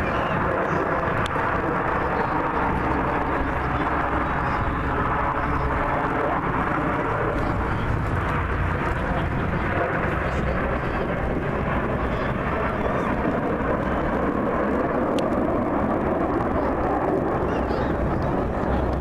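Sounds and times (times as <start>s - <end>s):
aircraft engine rumble: 0.0s - 19.0s.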